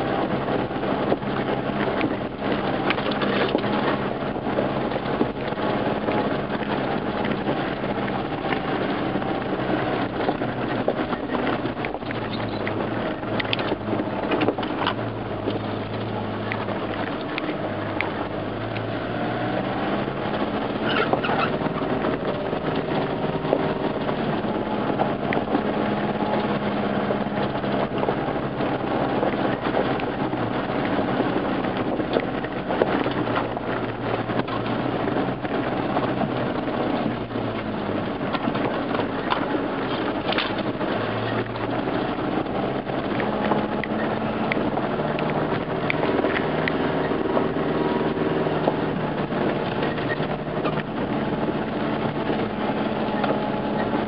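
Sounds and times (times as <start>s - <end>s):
body knocks and rattles: 0.0s - 54.0s
vehicle engine running: 0.0s - 54.0s.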